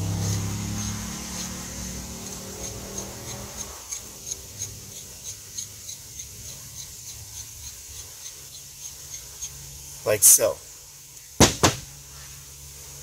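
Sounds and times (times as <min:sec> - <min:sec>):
nut spinning on threaded shaft: 0:00.0 - 0:11.2.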